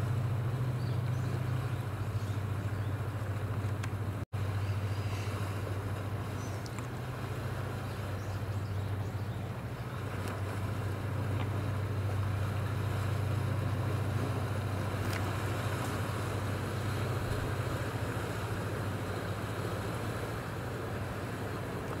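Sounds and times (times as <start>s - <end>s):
boat diesel engine droning: 0.0s - 22.0s
water wash: 0.0s - 22.0s.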